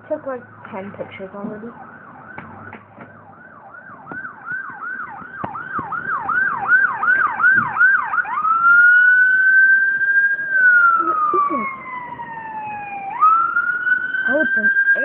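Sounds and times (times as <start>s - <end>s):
emergency siren yelping and wailing: 0.1s - 15.0s.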